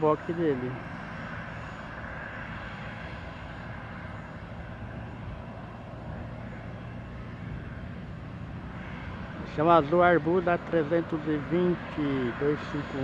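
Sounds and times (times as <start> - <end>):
distant aircraft and machinery hum: 0.0 - 13.0.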